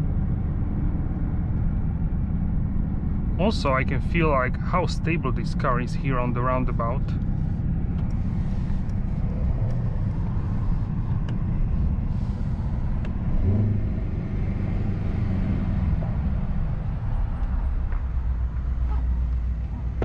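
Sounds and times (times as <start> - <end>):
car engine drone: 0.0 - 20.0
road and tyre noise: 0.0 - 20.0.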